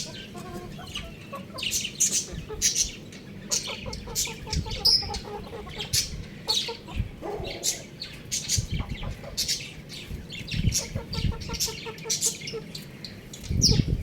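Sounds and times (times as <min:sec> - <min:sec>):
young rooster peeping: 0:00.0 - 0:14.0.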